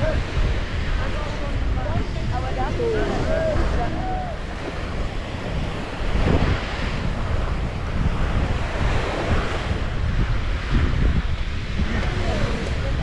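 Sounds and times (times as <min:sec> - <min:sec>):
surf washing onto beach: 0:00.0 - 0:13.0
wind buffeting microphone: 0:00.0 - 0:13.0.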